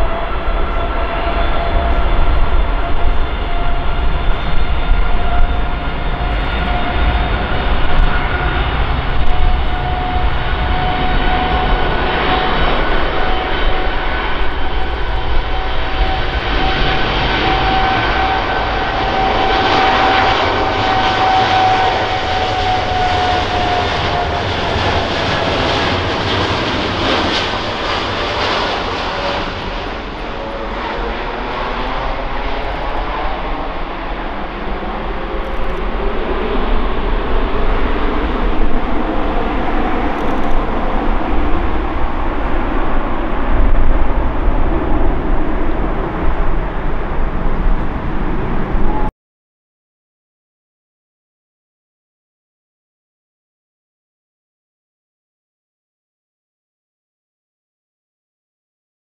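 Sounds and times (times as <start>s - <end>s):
jet engine roar with whine: 0.0s - 49.1s.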